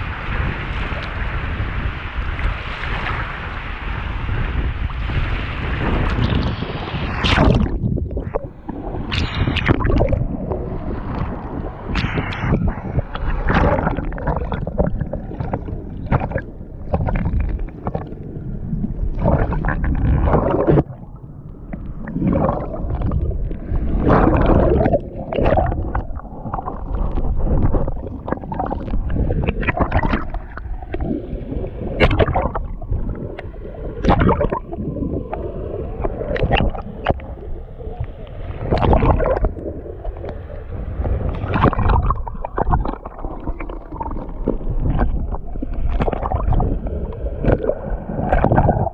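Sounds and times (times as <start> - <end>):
muffled underwater river gurgling: 0.0 - 48.9.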